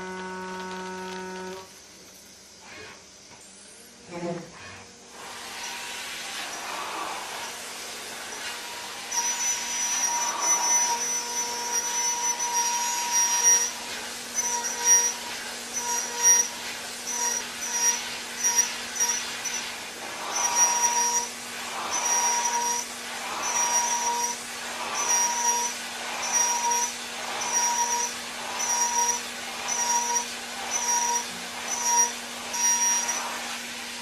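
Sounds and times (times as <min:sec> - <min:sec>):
high whine from cutter: 0:00.0 - 0:03.0, 0:05.2 - 0:34.0
milling machine cutting metal: 0:05.4 - 0:34.0.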